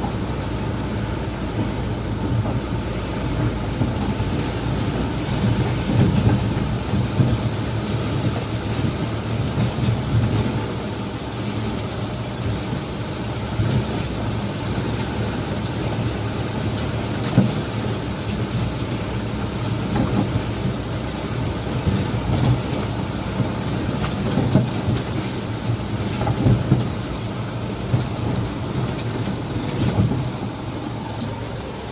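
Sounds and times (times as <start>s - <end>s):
truck engine rumble: 0.0s - 31.9s.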